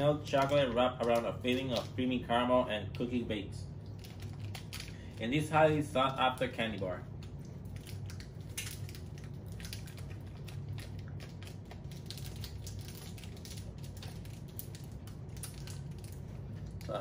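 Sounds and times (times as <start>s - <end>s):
plastic wrapper crinkling and tearing: 0.0s - 2.0s, 3.8s - 5.2s, 6.2s - 17.0s
low steady hum: 0.0s - 17.0s.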